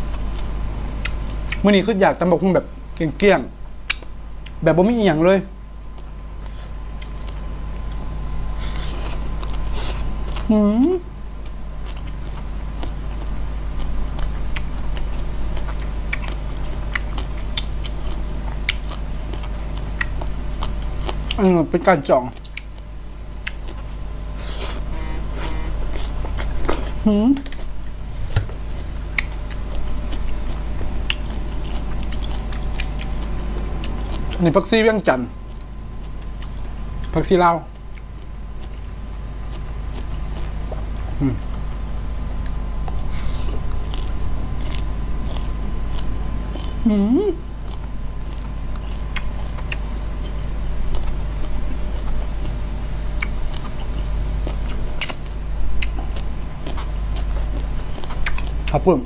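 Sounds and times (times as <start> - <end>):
close chewing with wet crunches: 0.0 - 1.7, 5.8 - 10.6, 11.2 - 58.9
steady low hum: 0.0 - 59.0.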